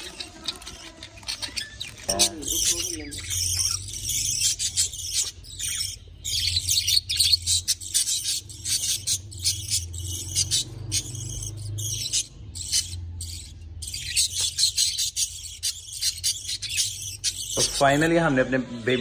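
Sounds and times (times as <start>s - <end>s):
budgerigars chattering and chirping: 0.0s - 19.0s.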